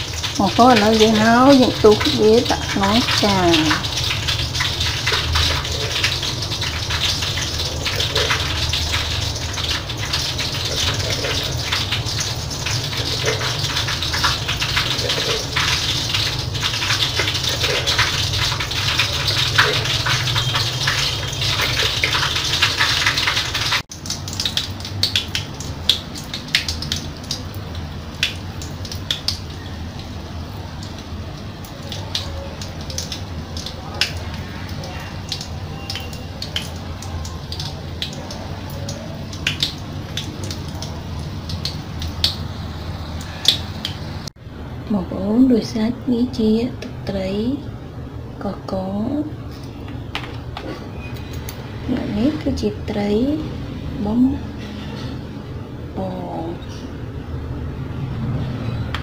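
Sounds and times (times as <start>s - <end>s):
oil crackling around frying fish: 0.0s - 59.0s.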